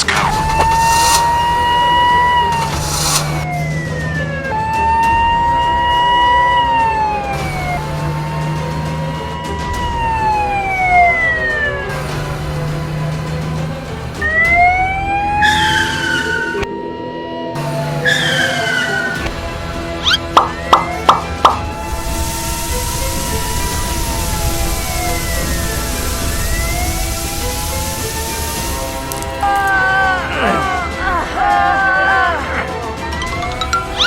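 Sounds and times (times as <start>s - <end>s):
siren wailing: 0.0s - 12.7s, 14.2s - 34.0s
background music: 0.0s - 34.0s.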